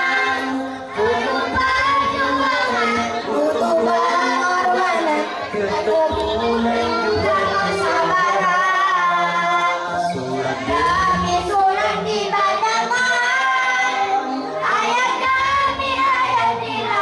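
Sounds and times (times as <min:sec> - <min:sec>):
children singing a march: 0:00.0 - 0:17.0.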